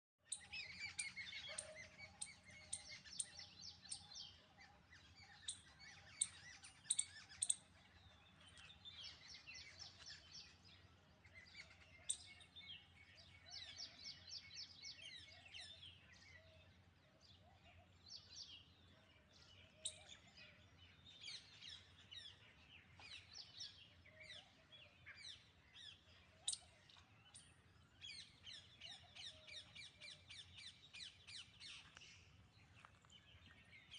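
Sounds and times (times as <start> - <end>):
birds chirping and twittering: 0.2 - 33.9.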